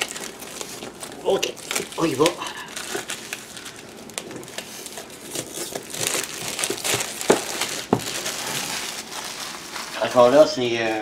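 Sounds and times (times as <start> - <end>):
plastic wrap crinkling and tearing: 0.0 - 11.0.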